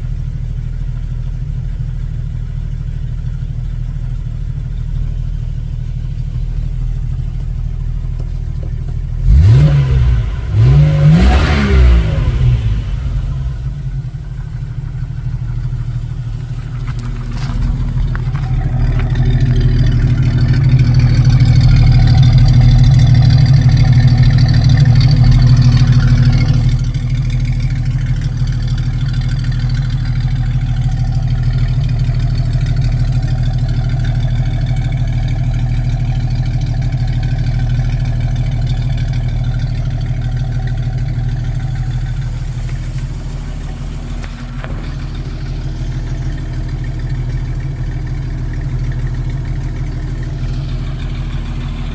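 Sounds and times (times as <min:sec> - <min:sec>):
car engine revving and idling: 0:00.0 - 0:51.9.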